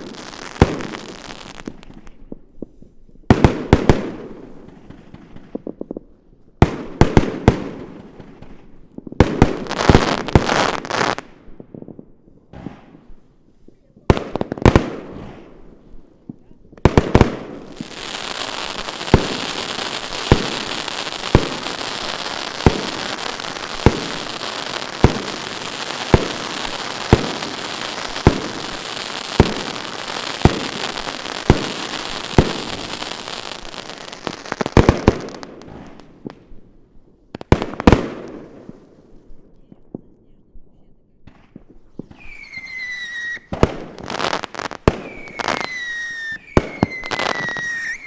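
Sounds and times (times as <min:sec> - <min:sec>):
fireworks bangs: 0:00.0 - 0:02.2, 0:06.6 - 0:13.2, 0:14.0 - 0:36.6, 0:37.3 - 0:39.1, 0:41.2 - 0:48.0
fireworks crackling: 0:00.0 - 0:06.0, 0:06.8 - 0:11.4, 0:12.6 - 0:36.7, 0:37.3 - 0:39.2, 0:41.3 - 0:48.0.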